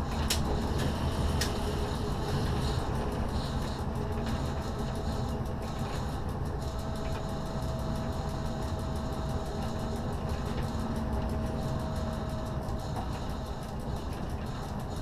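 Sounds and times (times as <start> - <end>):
wheels rumbling on track: 0.0 - 15.0
thin steady tone: 1.0 - 15.0.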